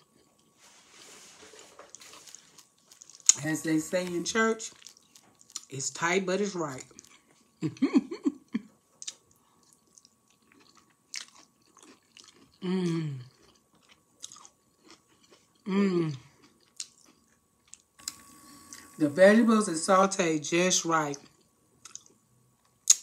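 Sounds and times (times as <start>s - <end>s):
person chewing food: 0.0s - 5.7s, 6.7s - 18.9s, 21.1s - 23.0s.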